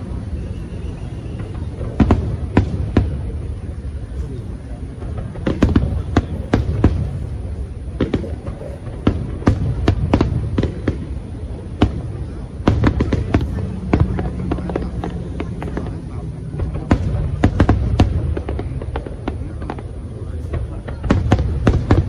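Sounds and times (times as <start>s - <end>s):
continuous low rumble: 0.0s - 22.0s
fireworks cracks and bangs: 0.0s - 22.0s.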